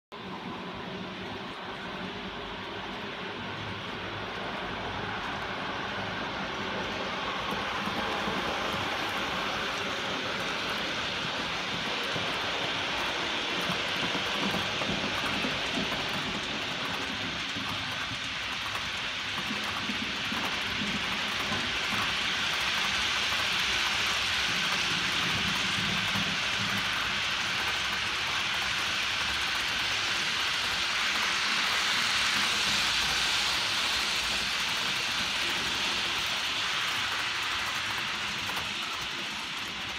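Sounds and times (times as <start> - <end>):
model train wheels rattling on track: 0.3 - 39.9.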